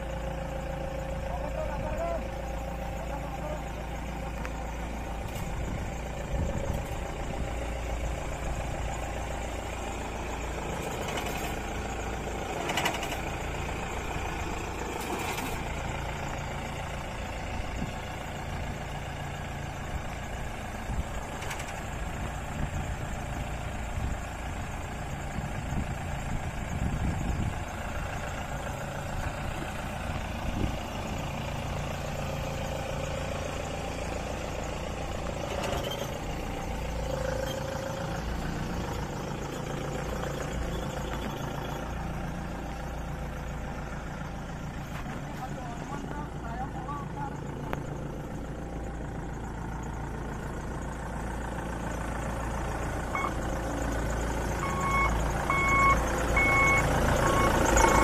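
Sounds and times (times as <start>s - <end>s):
harvester engine running: 0.0s - 58.0s.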